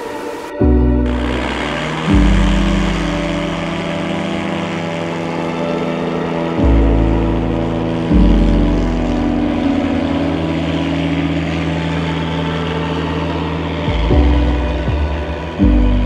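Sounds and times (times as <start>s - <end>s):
propeller plane engine drone: 0.0s - 16.0s.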